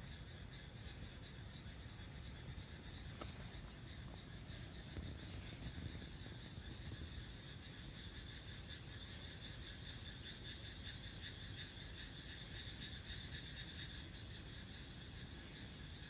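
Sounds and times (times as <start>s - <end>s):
fire crackling: 0.0s - 16.0s
fire rumbling: 0.0s - 16.0s
frogs calling in chorus: 0.0s - 16.0s.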